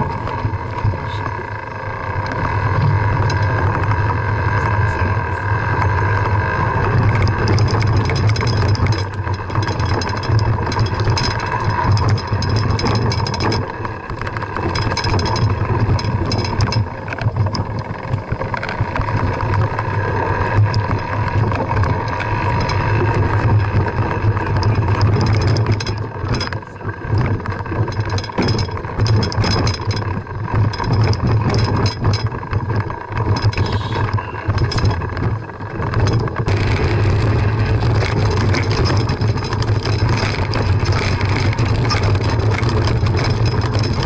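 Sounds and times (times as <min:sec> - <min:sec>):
bike rattling clicks: 0:00.0 - 0:44.0
tyres and wind rumble: 0:00.0 - 0:44.0.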